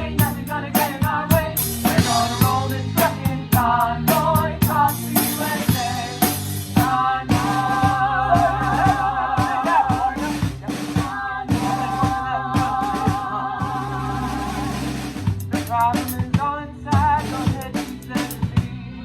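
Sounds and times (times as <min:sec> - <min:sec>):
drum kit beat: 0:00.0 - 0:18.8.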